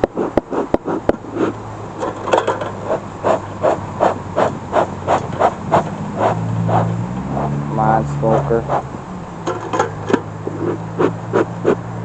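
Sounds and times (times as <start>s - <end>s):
smoker bellows puffing air: 0.0s - 12.0s.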